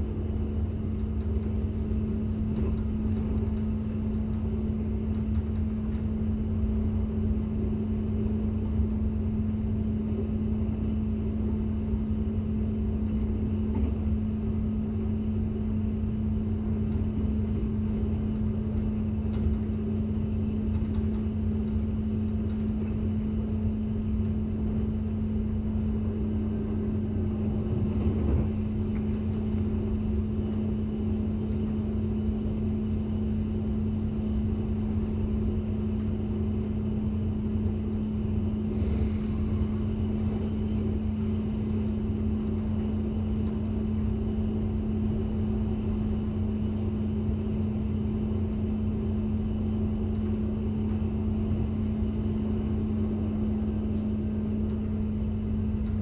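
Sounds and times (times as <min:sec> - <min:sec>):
train drone and hum: 0:00.0 - 0:56.0
wheels rumbling on track: 0:00.0 - 0:56.0.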